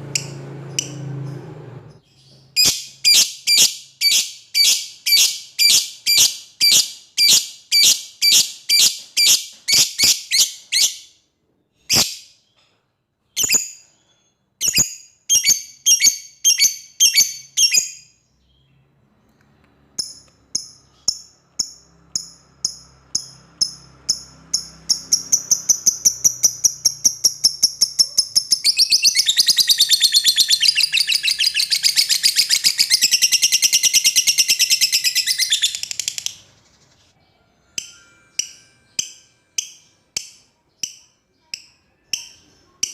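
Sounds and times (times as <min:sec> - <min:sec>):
lovebird chirping and trilling: 0:00.1 - 0:11.2, 0:11.8 - 0:12.6, 0:13.3 - 0:18.7, 0:20.0 - 0:37.1, 0:37.8 - 0:42.9.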